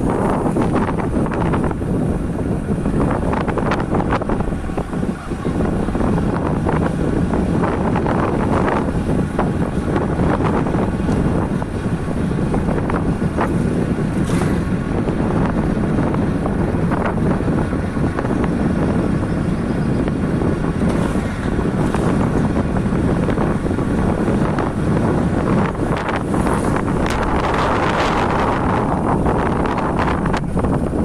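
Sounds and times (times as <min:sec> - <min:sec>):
motorcycle road noise: 0:00.0 - 0:31.0
wind buffeting microphone: 0:00.0 - 0:31.0.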